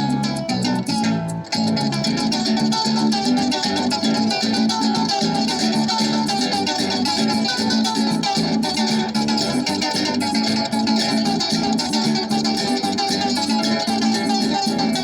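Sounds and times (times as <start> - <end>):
harp plucked melody: 0.0 - 15.0.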